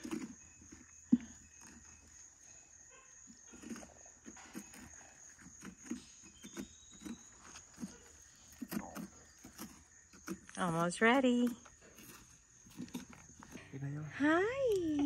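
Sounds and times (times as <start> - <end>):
hand scraping pumpkin pulp: 0.0 - 14.8.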